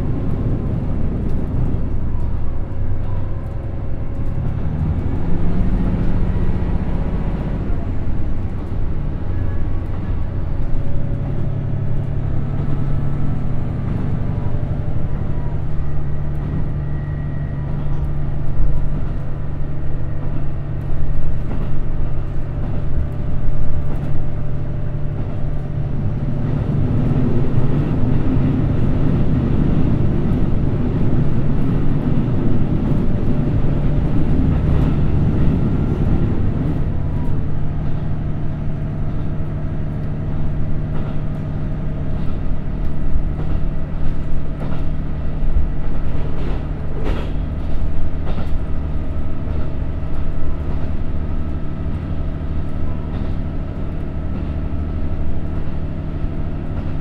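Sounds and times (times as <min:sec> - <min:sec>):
diesel railcar engine: 0:00.0 - 0:57.0
wheels rumbling on rails: 0:00.0 - 0:57.0.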